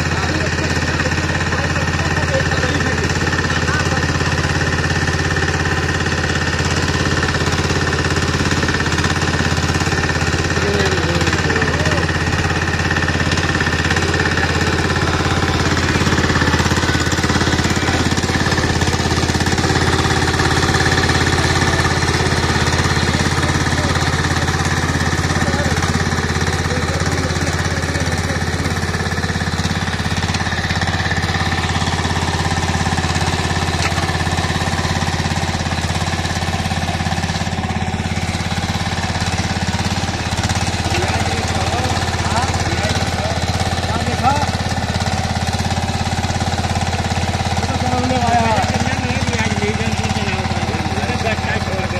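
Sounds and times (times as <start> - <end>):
diesel engine running under load: 0.0 - 51.9
rotary tines churning soil: 0.0 - 51.9.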